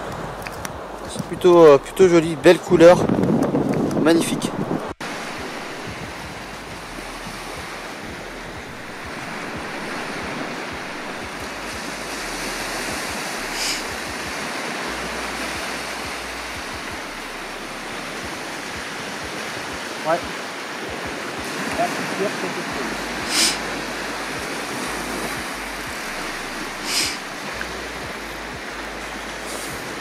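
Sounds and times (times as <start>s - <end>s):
sea surf breaking on beach: 0.0s - 30.0s.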